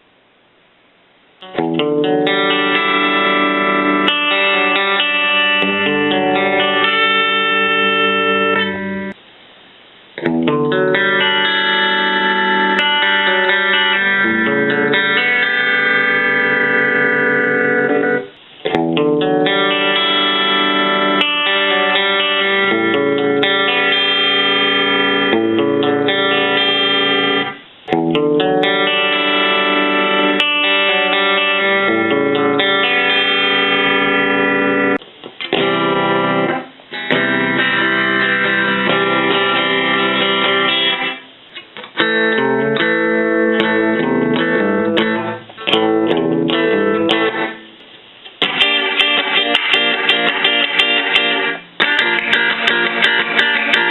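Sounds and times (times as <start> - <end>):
electric guitar chords: 1.4 - 9.2, 10.1 - 53.9.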